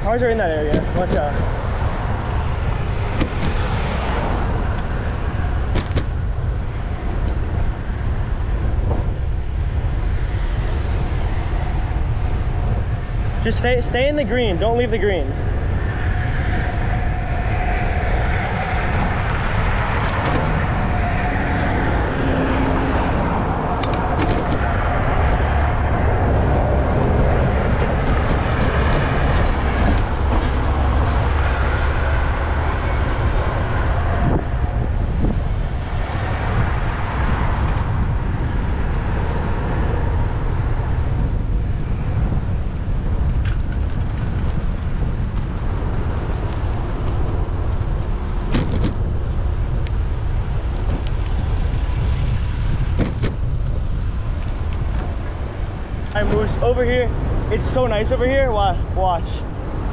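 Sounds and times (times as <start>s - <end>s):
city street traffic: 0.0s - 59.9s
wind rumble on microphone: 0.0s - 59.9s.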